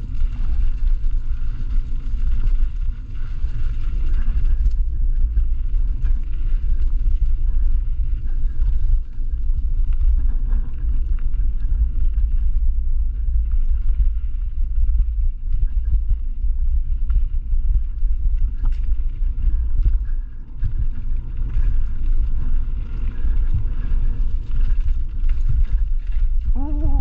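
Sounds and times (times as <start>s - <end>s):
bike tyres on dirt: 0.0s - 27.0s
wind buffeting microphone: 0.0s - 27.0s.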